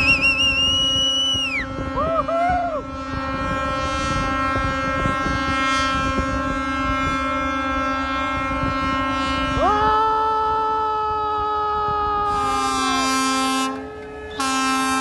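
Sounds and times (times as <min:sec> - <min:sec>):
boat horns in a chord: 0:00.0 - 0:15.0
horn with rising pitch: 0:00.0 - 0:15.0
wind rumble on microphone: 0:00.0 - 0:15.0.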